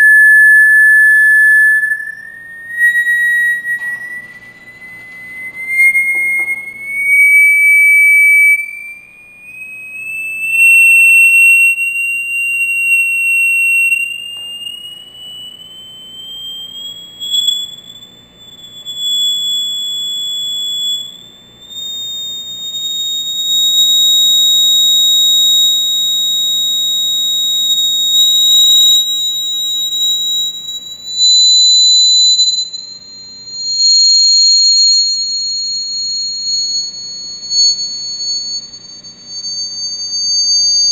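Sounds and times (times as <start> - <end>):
vibrating plate high-pitched tone: 0.0 - 40.9.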